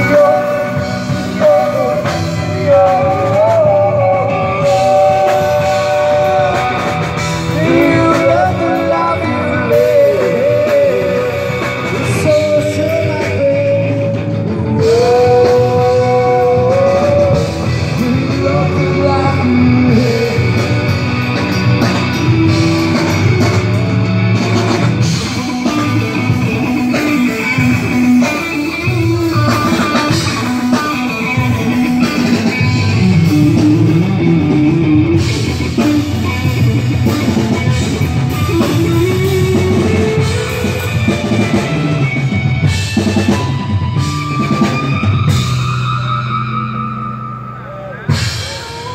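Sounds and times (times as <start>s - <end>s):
person singing: 0.0s - 41.8s, 47.6s - 48.9s
bass guitar: 0.0s - 48.9s
drum kit: 0.0s - 48.9s
electric guitar: 0.0s - 48.9s.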